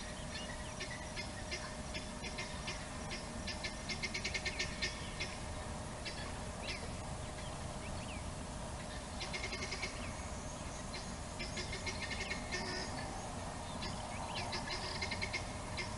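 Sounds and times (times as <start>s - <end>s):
birds chattering and chirping: 0.0s - 15.9s
faint hum: 0.0s - 15.9s
low background noise: 0.0s - 15.9s.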